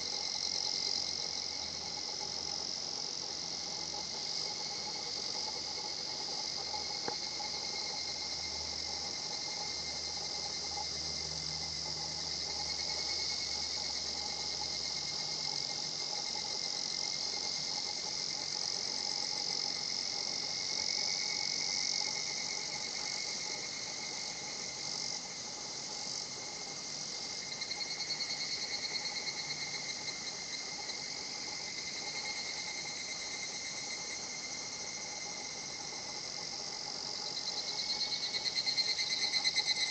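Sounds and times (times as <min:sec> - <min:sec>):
cicadas chorus: 0:00.0 - 0:39.9
rapidly pulsing cicada call: 0:00.0 - 0:39.9.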